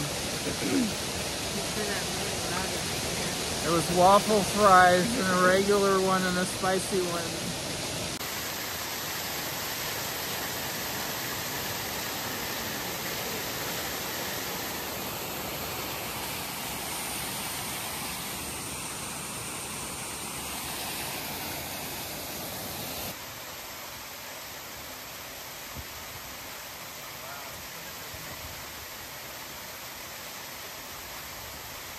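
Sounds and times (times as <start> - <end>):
fountain water rushing: 0.0 - 31.9.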